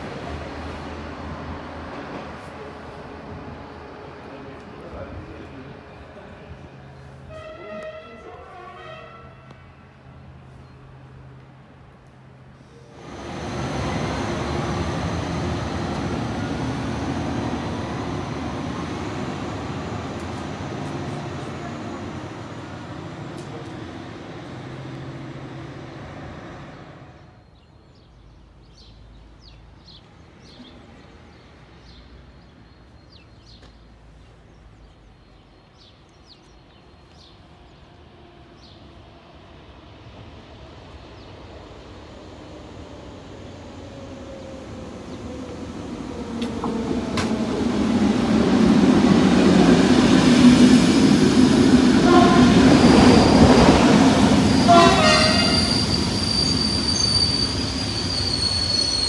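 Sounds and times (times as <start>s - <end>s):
distant electric locomotive: 0.0s - 59.0s
passenger train passing at speed: 0.0s - 59.0s.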